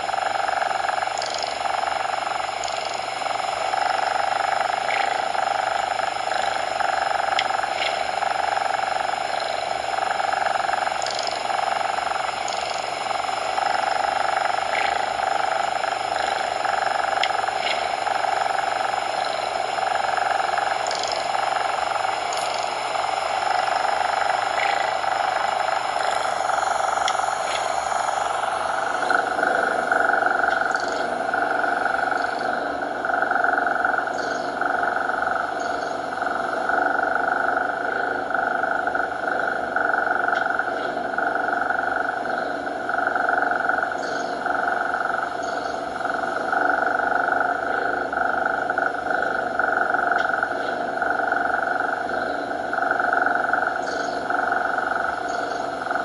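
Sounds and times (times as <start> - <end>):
steady synthetic noise hiss: 0.0 - 56.0.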